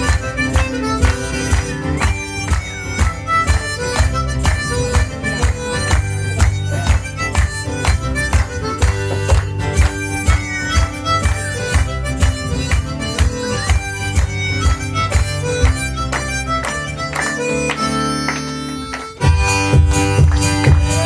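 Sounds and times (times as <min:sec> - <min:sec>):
harmonica tune: 0:00.0 - 0:21.0
percussive beat: 0:00.0 - 0:21.0.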